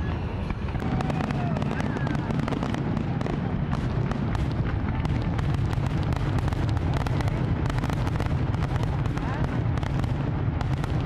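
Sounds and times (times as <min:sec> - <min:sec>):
fireworks booming: 0:00.0 - 0:11.0
fireworks crackling and popping: 0:00.0 - 0:11.0.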